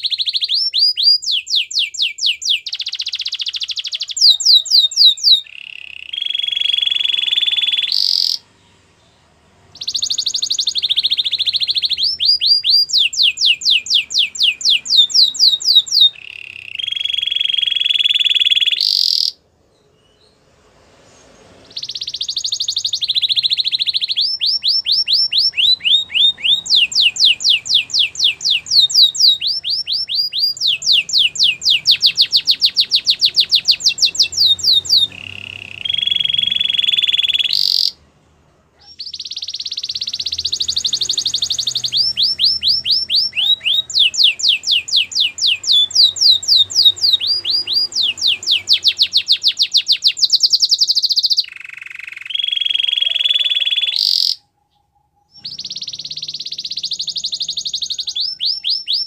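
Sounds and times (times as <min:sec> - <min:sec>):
canary singing trills: 0:00.0 - 0:38.1, 0:38.8 - 0:59.0.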